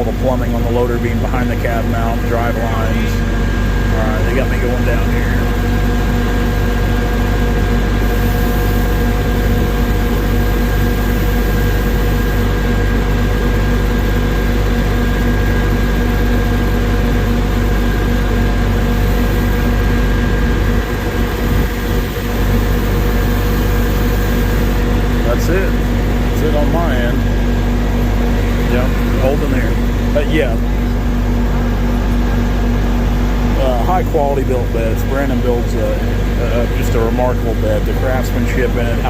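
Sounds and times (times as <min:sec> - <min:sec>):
diesel engine rumble: 0:00.0 - 0:39.0
steady hum: 0:00.0 - 0:39.0.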